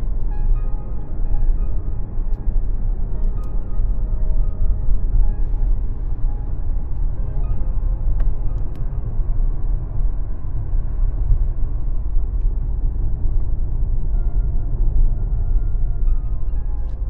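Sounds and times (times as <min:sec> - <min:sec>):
engine and road noise rumble: 0:00.0 - 0:17.0.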